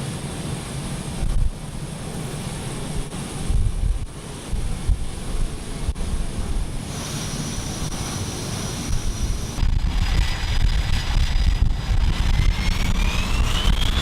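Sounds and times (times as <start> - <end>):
jet engine whine: 0.0 - 14.0
wind rumble on microphone: 0.0 - 14.0.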